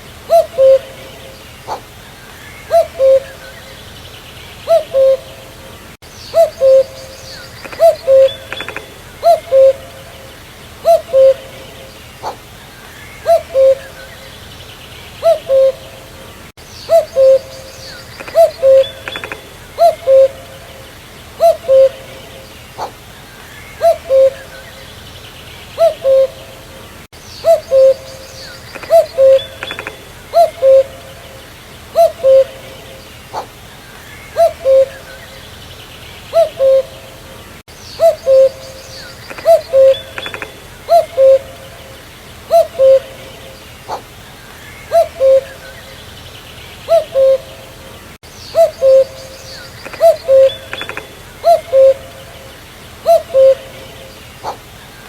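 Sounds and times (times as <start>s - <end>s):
cuckoo calling: 0.0s - 4.0s, 4.6s - 14.5s, 15.1s - 25.0s, 25.7s - 35.6s, 36.2s - 54.8s
birds chirping: 0.0s - 55.0s.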